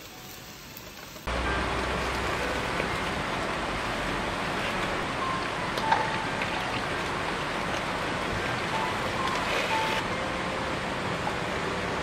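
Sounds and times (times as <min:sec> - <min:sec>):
meat and mushrooms sizzling on grill: 0:00.0 - 0:10.0.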